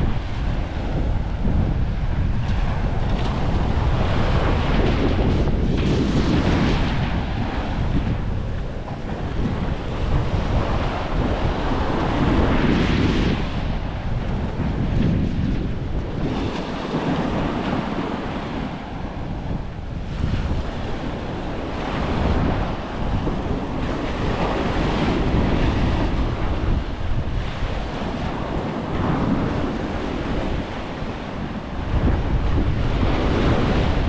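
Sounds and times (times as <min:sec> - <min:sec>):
surf breaking on a beach: 0:00.0 - 0:34.0
wind buffeting microphone: 0:00.0 - 0:34.0.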